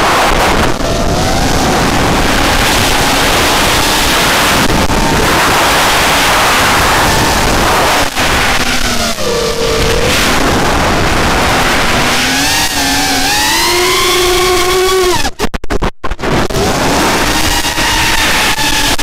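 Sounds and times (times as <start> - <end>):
drone motors whining: 0.0 - 15.5, 16.2 - 19.0
wind rush on microphone: 0.0 - 19.0.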